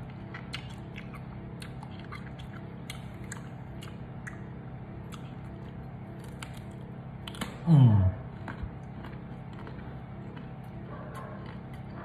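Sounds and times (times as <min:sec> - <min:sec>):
low steady hum: 0:00.0 - 0:12.0
person chewing crunchy fruit: 0:00.0 - 0:12.0.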